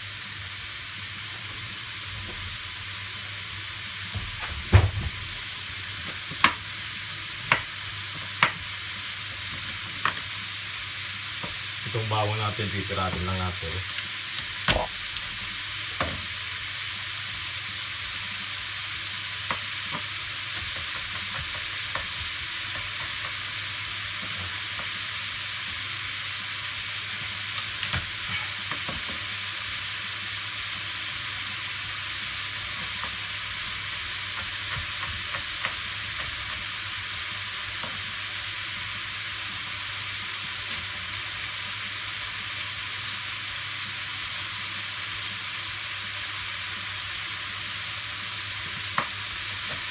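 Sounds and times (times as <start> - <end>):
meat sizzling in oil: 0.0 - 49.9.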